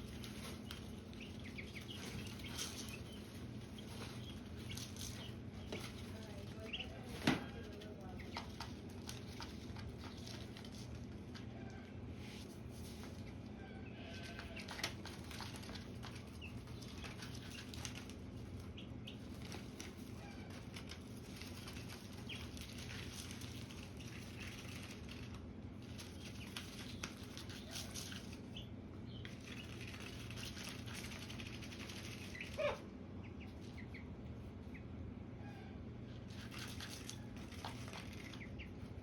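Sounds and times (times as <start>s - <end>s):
duckling peep: 0.0s - 10.8s, 13.4s - 39.0s
steady low hum: 0.0s - 39.0s.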